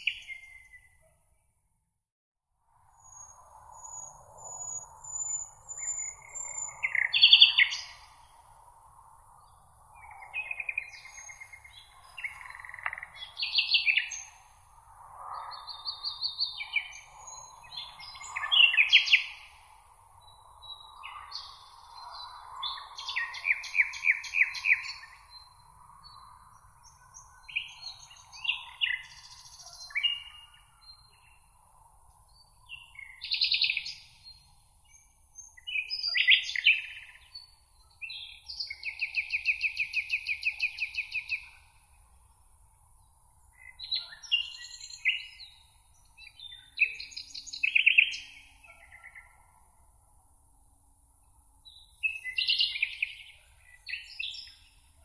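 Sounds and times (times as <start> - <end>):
songbirds singing: 0.0 - 1.2, 3.0 - 50.0, 50.7 - 55.0.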